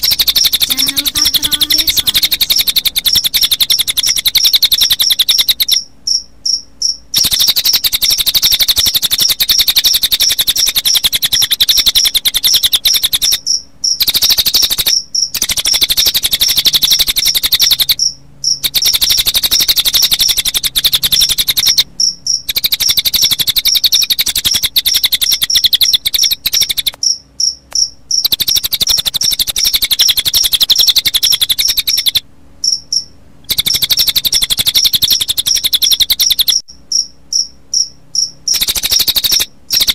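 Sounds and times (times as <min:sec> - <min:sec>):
bird trilling: 0:00.0 - 0:39.9
crickets chirping: 0:00.0 - 0:39.9.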